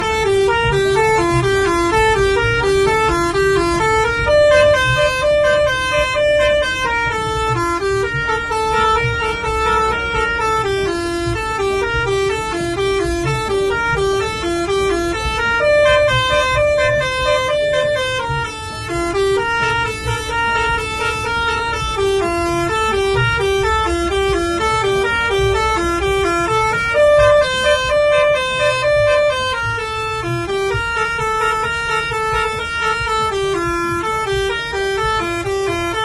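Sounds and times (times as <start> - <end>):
multi-tone bus horn tune: 0.0 - 36.0.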